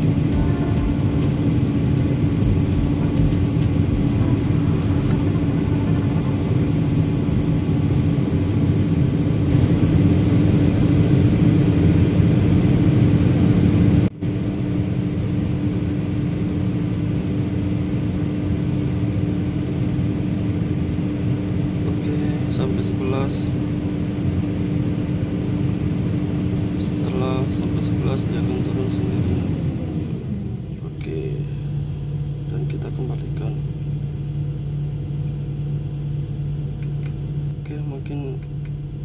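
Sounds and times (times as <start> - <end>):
diesel engine running fast: 0.0 - 39.0
steady hum: 0.0 - 39.0.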